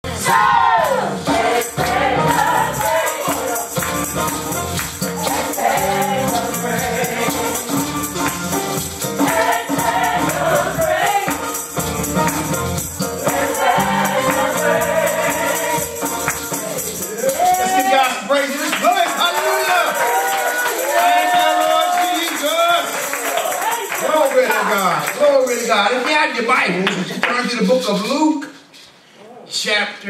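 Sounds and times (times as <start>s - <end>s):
gospel singing: 0.0s - 24.9s
jingling percussion beat: 0.2s - 25.9s
congregation clapping: 1.8s - 8.6s, 9.2s - 12.6s, 13.3s - 27.4s.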